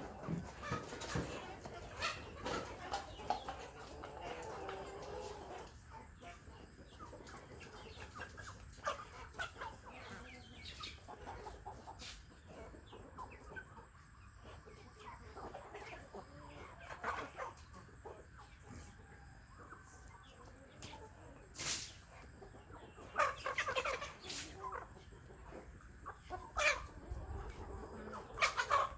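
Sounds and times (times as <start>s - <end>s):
drawn-out chicken call: 0.0s - 20.6s, 22.3s - 28.9s
chickens clucking: 0.0s - 28.9s.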